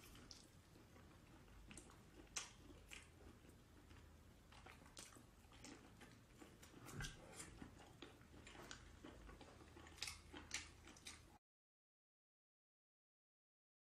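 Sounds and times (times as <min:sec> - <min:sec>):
wet chewing: 0:00.0 - 0:11.4.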